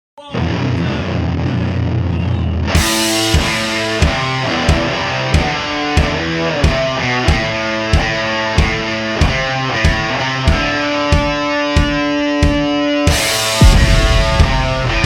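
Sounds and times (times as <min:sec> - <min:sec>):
distorted electric guitar: 0:00.2 - 0:15.0
rock band with drum beat: 0:02.5 - 0:15.0.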